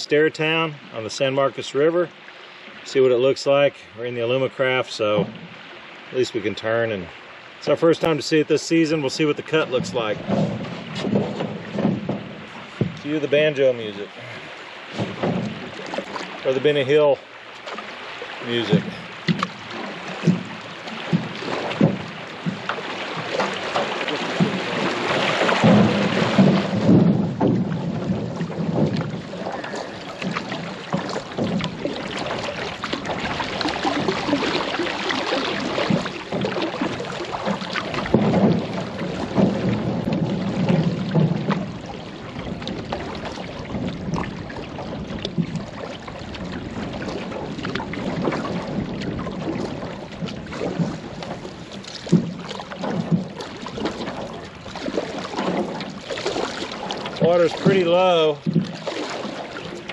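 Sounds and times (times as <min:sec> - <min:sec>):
paddles splashing through water: 0:00.0 - 0:59.9
knocks on aluminum canoe: 0:09.5 - 0:13.7, 0:14.9 - 0:16.4, 0:17.6 - 0:59.9.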